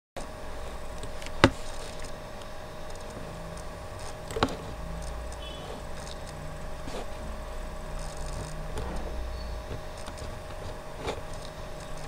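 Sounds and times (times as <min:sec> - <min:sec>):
steady electrical hum: 0:00.2 - 0:12.0.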